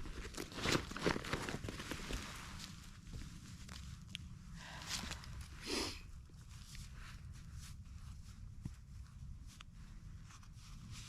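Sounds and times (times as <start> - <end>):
soft footsteps on trail: 0.0 - 11.0.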